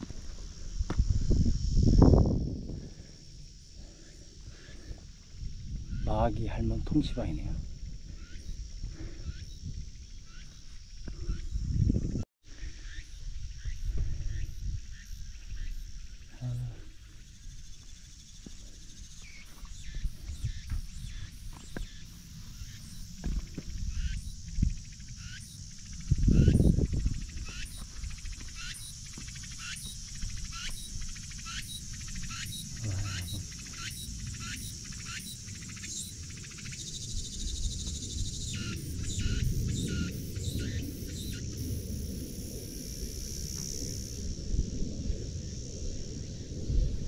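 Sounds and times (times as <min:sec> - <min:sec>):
insects droning: 0:00.0 - 0:47.0
wind noise on microphone: 0:00.0 - 0:47.0.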